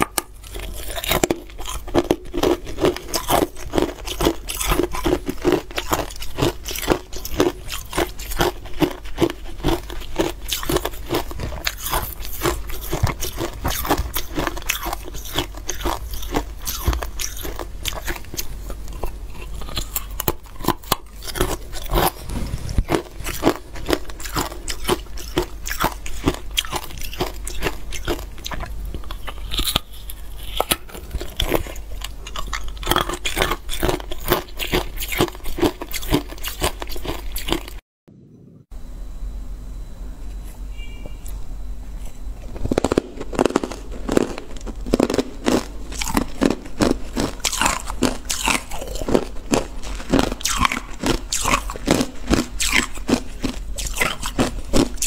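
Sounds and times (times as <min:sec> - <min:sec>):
person crunching ice: 0:00.0 - 0:37.8, 0:42.5 - 0:55.0.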